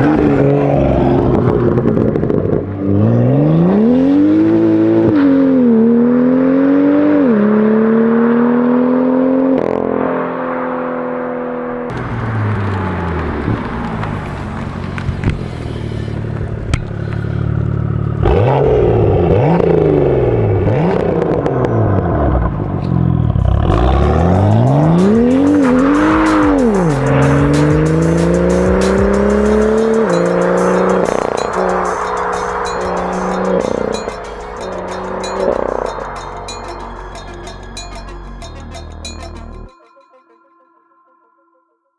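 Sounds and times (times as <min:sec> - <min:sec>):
car engine revving hard: 0:00.0 - 0:36.5.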